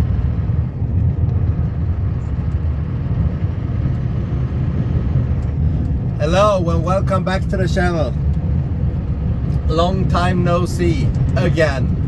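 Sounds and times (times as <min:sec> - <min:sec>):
road noise on gravel: 0:00.0 - 0:12.0
vehicle engine drone: 0:00.0 - 0:12.0.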